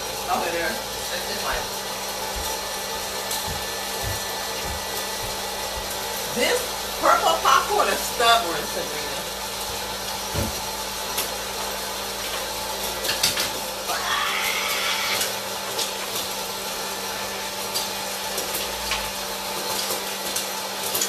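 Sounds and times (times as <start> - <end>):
popcorn popper fan whirring: 0.0 - 21.0.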